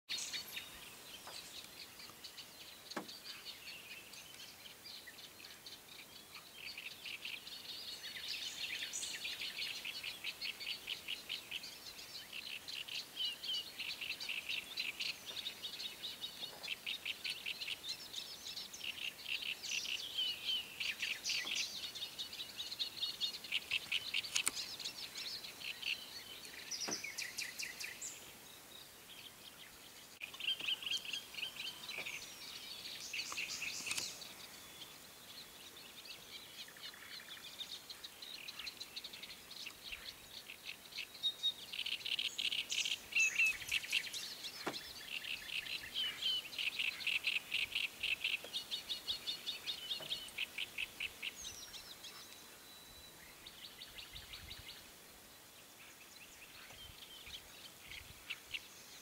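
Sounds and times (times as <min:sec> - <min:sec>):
songbirds chattering: 0:00.1 - 0:59.0.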